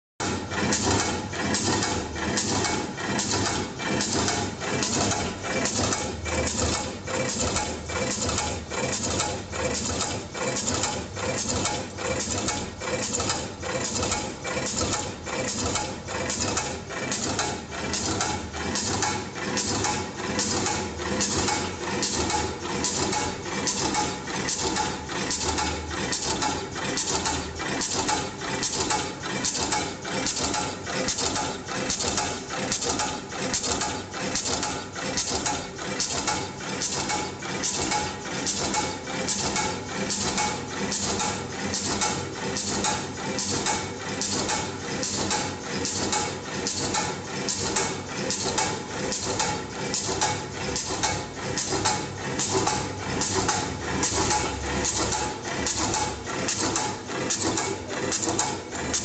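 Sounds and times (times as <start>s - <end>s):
wire crimping machine strokes: 0.5s - 59.0s.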